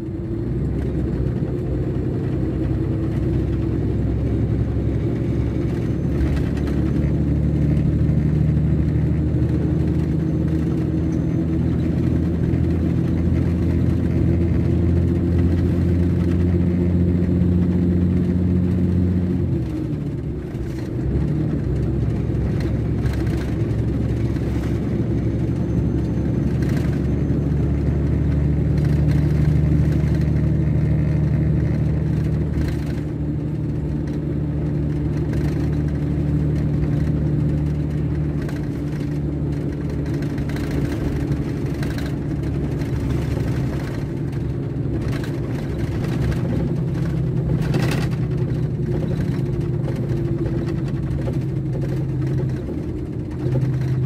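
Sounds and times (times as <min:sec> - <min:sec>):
diesel coach engine running: 0:00.0 - 0:54.0.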